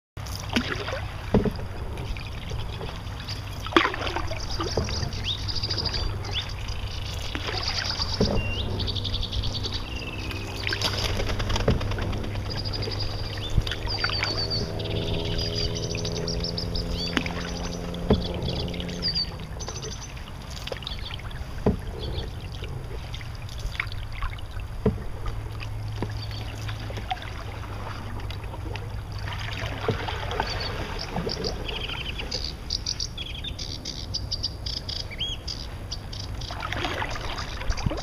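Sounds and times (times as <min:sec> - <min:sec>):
paddle splashing in water: 0:00.2 - 0:33.5, 0:35.2 - 0:38.0
steady low drone: 0:00.2 - 0:38.0
small birds chirping: 0:02.0 - 0:24.6, 0:25.7 - 0:27.0, 0:30.3 - 0:38.0.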